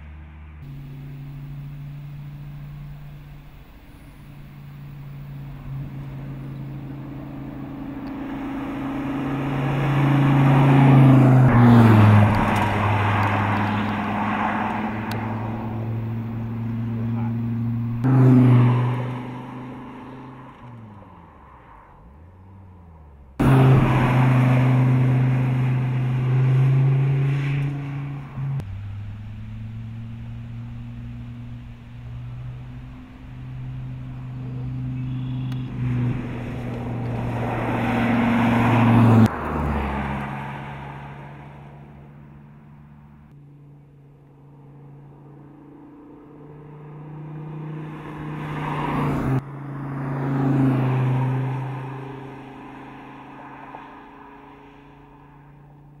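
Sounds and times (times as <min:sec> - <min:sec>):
car engine driving past: 0:00.0 - 0:55.8.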